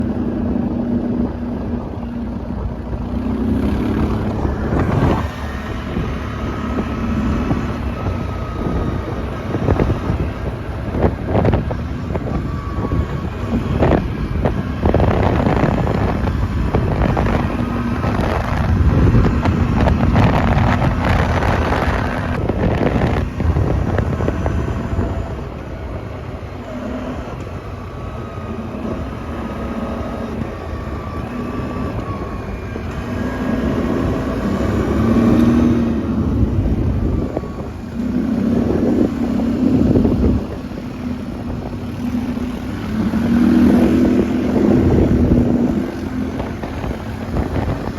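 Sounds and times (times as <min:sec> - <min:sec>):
quad bike engine running: 0:00.0 - 0:47.9
wind buffeting microphone: 0:00.0 - 0:47.9.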